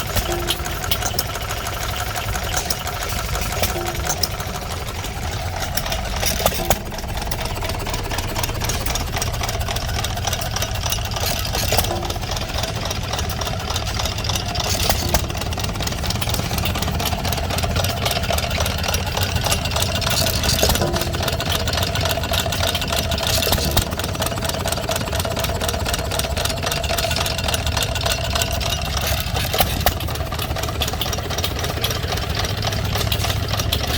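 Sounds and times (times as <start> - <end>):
sharp engine knocks: 0.0 - 33.9
stationary engines running: 0.0 - 33.9.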